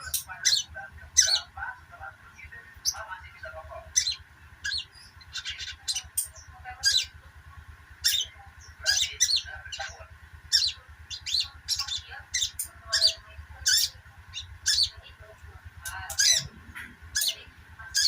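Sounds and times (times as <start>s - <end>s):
bird chirping: 0.0s - 1.6s, 2.3s - 7.2s, 8.0s - 18.0s.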